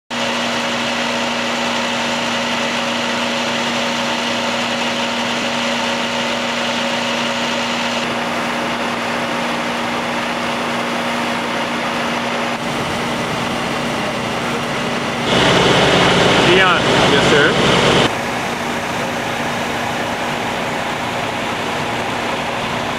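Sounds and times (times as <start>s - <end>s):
engine droning: 0.1s - 22.9s.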